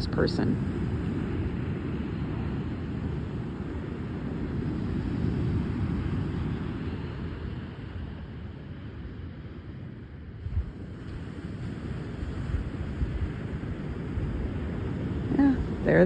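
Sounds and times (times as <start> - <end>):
surf washing: 0.0 - 16.0
wind buffeting microphone: 0.0 - 16.0.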